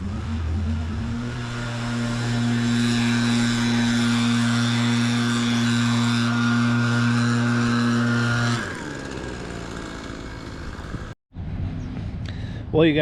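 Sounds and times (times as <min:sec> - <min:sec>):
engine running: 0:00.0 - 0:12.6.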